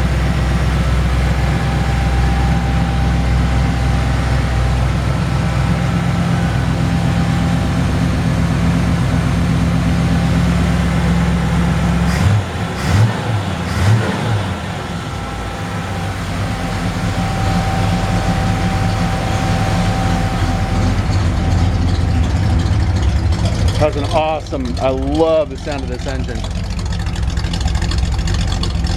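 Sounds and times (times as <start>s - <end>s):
car engine running: 0.0s - 28.9s
engine throttle blips: 0.0s - 28.9s.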